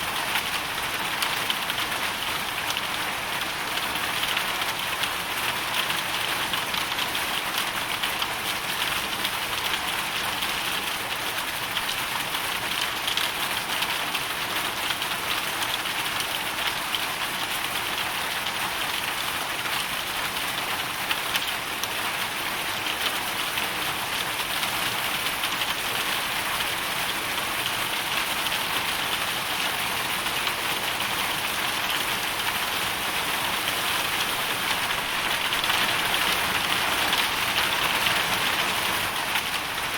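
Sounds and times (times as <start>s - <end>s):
hail and rain on hard surface: 0.0s - 39.9s.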